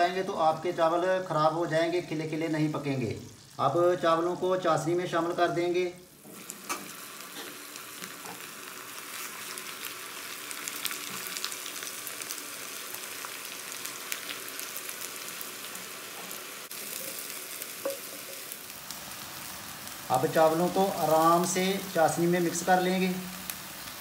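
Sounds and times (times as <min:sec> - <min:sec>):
syrup bubbling and sizzling: 0:00.0 - 0:24.0.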